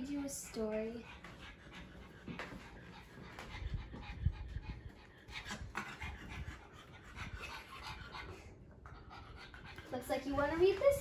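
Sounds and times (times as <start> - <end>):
dogs panting: 0.0 - 11.0.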